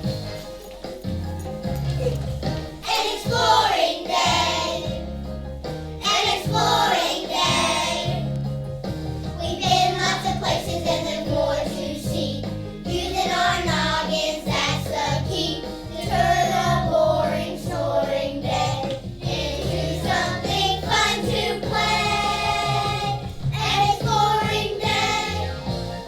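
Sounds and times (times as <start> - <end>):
instrumental accompaniment: 0.0 - 26.0
children singing together: 2.8 - 5.1, 6.0 - 8.3, 9.4 - 25.8.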